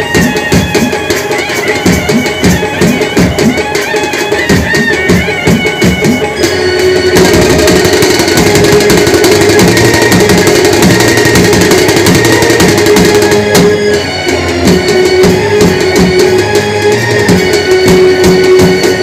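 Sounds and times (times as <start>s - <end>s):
bass drums and side drums beating: 0.0s - 19.0s
brass band playing festive music: 0.0s - 19.0s.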